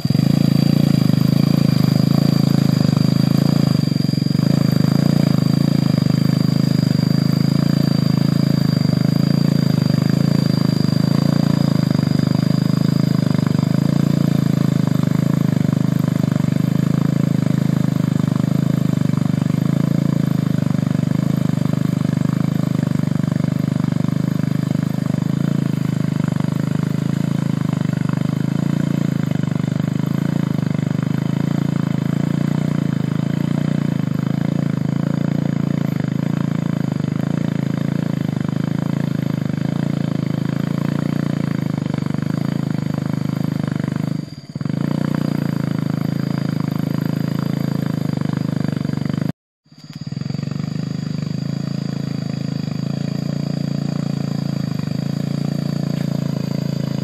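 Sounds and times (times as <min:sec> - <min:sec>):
buggy engine running: 0:00.0 - 0:57.0.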